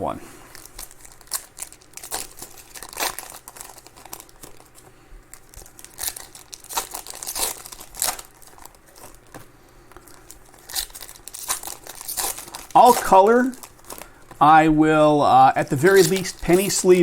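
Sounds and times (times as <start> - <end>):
wrapper tearing and crinkling: 0.5 - 14.4, 15.3 - 17.0.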